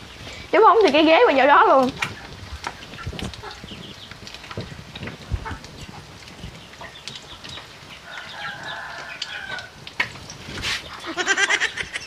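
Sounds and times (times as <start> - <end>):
eggs frying in butter: 0.0 - 12.0.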